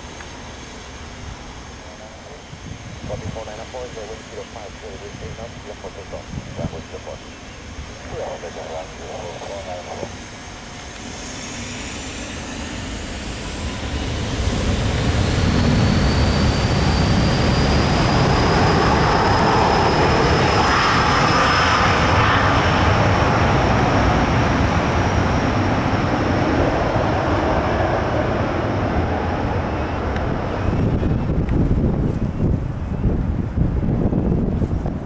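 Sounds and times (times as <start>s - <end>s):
jet engines at takeoff: 0.0s - 35.0s.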